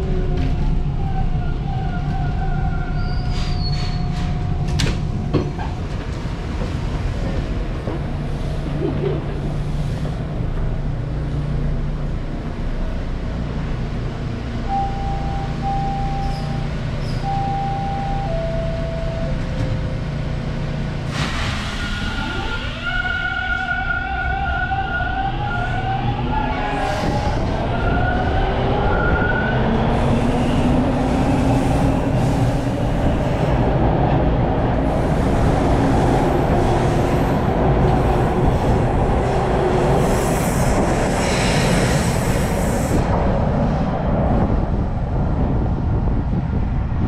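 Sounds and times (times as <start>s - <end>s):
subway train rumble: 0.0s - 47.0s.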